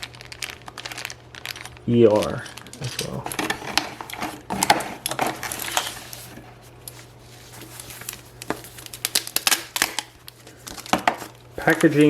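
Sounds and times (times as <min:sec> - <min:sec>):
packaging rustle: 0:00.0 - 0:12.0.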